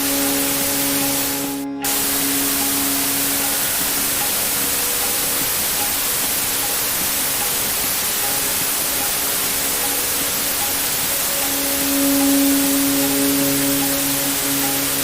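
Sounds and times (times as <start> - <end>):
faint soft music tones: 0.0 - 15.0
white-noise hiss: 0.0 - 15.0.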